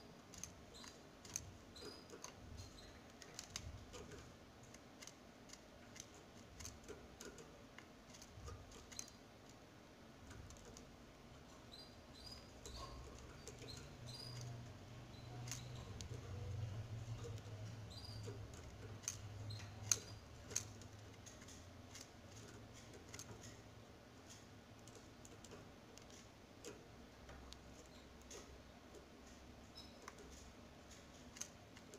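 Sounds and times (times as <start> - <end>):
small clicks: 0.2 - 9.6, 11.5 - 31.9.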